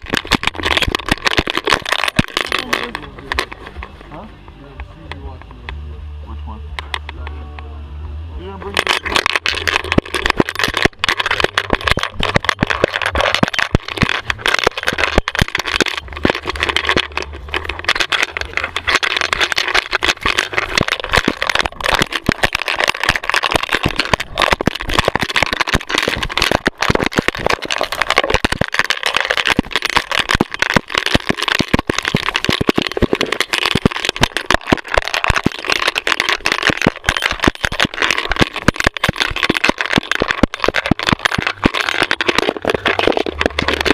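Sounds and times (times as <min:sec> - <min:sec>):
camera housing rattling: 0:00.0 - 0:04.0, 0:08.8 - 0:43.9
dense clicks: 0:00.0 - 0:04.0, 0:08.6 - 0:43.9.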